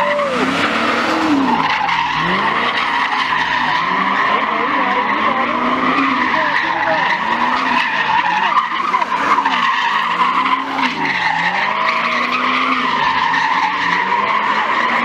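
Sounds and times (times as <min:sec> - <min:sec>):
car engine revving: 0:00.0 - 0:15.0
tyres squealing: 0:00.0 - 0:15.0.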